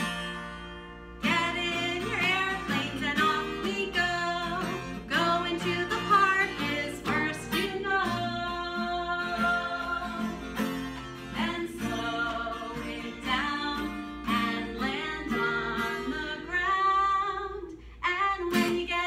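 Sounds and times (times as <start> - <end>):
strummed acoustic guitar: 0.0 - 17.2, 18.4 - 19.0
woman singing: 1.2 - 10.6, 11.2 - 19.0.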